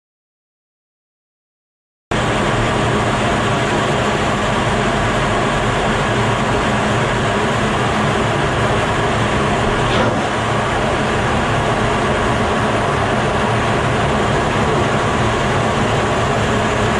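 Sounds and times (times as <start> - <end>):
jet cockpit engine and airflow noise: 2.1 - 16.9.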